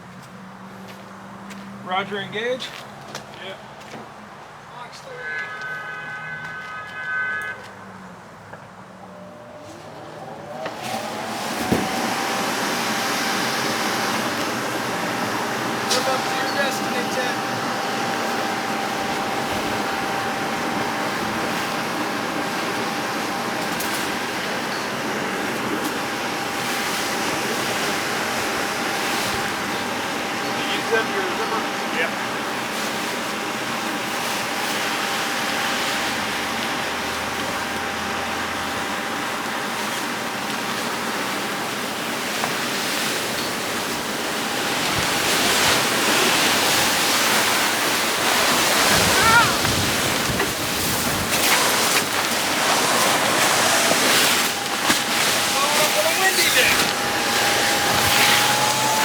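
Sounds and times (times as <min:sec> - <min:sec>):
electric blower fan running: 0:08.9 - 0:59.0.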